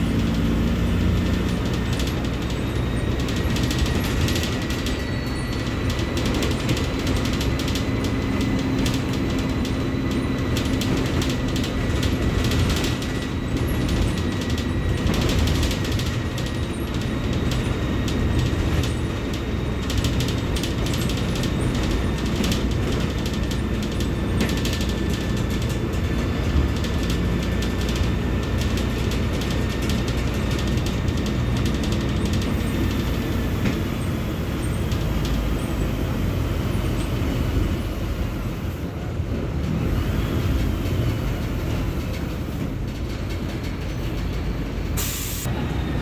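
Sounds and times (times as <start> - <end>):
bus body clicking and rattling: 0.0 - 46.0
bus diesel engine running: 0.0 - 46.0.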